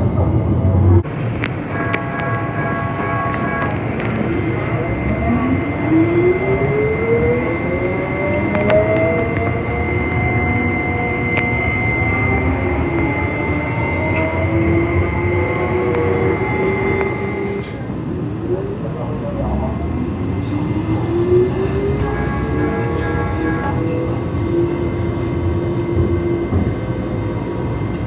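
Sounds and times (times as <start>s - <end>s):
steady high tone: 0.0s - 28.0s
tram motor whine: 0.0s - 28.0s
tram rumble: 0.0s - 28.0s.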